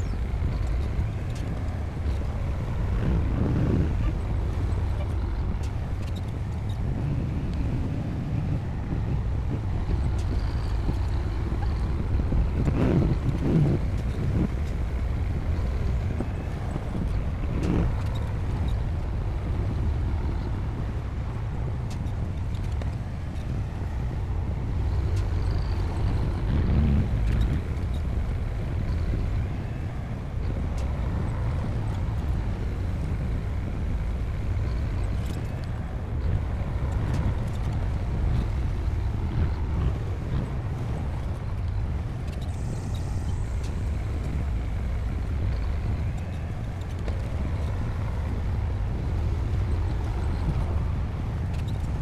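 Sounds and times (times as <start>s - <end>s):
bulldozer diesel engine rumbling: 0.0s - 52.0s.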